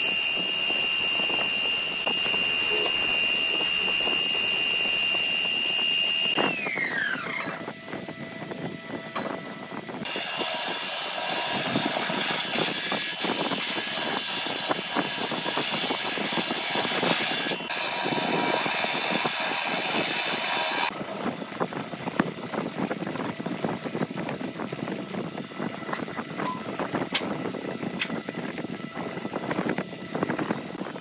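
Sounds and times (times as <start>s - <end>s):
machine whining: 0.0s - 31.0s.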